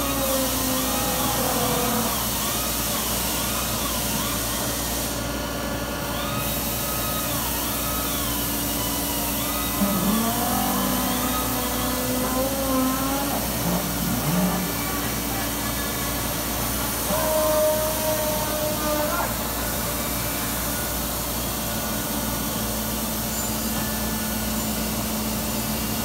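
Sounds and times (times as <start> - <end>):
robot arm motor whine: 0.0 - 25.8
machinery hum: 0.0 - 26.0.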